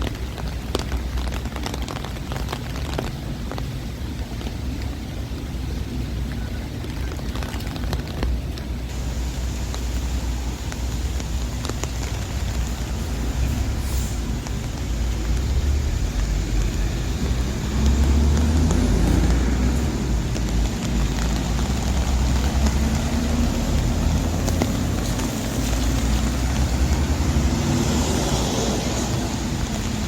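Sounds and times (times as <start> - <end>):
rain hiss: 0.0 - 30.0
traffic on wet roads: 0.0 - 30.0.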